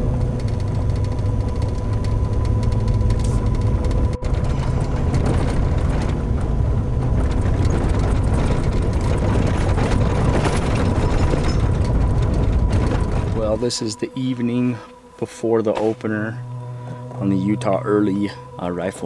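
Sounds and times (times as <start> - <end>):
vehicle engine rumbling and rattling: 0.0 - 19.0.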